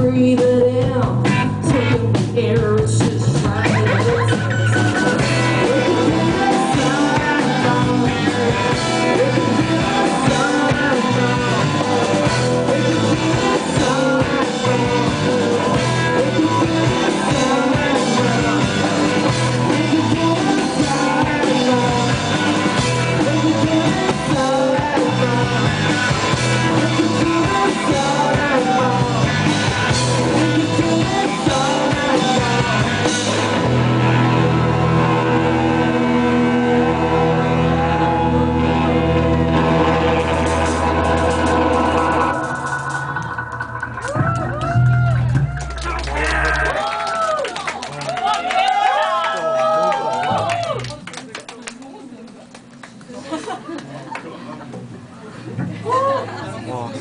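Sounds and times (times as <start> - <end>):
person singing: 0.0 - 46.8
electric guitar: 0.0 - 47.5
drums: 0.0 - 48.0, 54.7 - 56.4.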